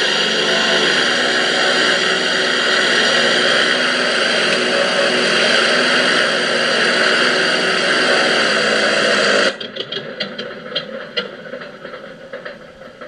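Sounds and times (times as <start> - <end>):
simulated aircraft engine through speakers: 0.0 - 13.0.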